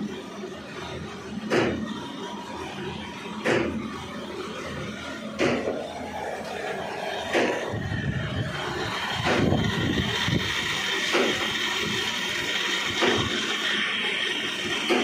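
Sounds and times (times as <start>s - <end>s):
steady machine noise: 0.0s - 15.0s.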